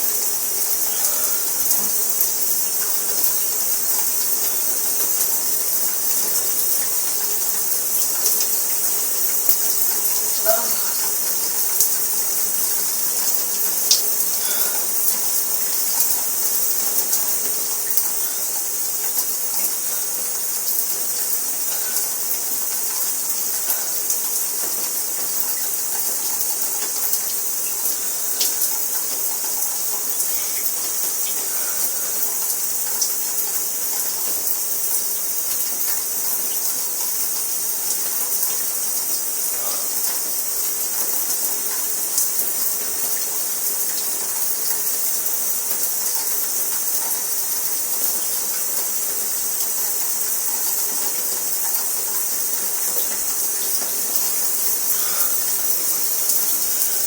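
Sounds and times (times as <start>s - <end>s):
shower spray running: 0.0s - 57.0s
water splashes and drips: 0.0s - 57.0s.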